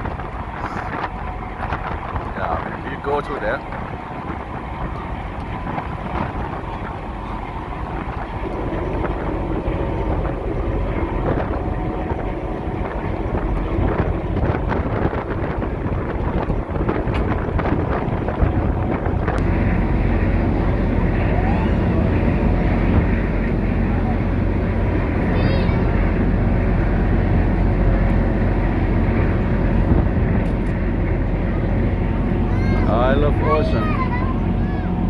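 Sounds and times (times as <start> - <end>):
ferry engines droning: 0.0 - 35.0
wind buffeting microphone: 0.0 - 35.0.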